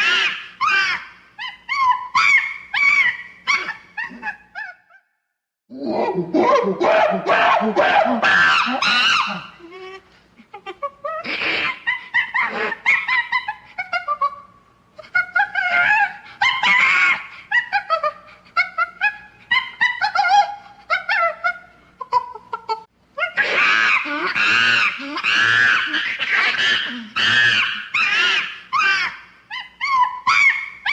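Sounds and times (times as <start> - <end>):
monkey hooting and screeching: 0.0 - 5.0, 5.9 - 9.9, 11.0 - 14.4, 15.1 - 22.4, 23.2 - 30.9.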